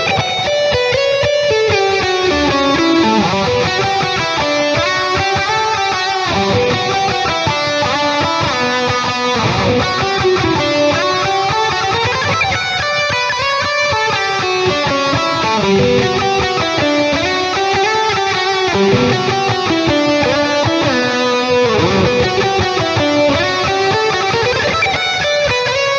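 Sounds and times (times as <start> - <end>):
distorted electric guitar lead: 0.0 - 25.9.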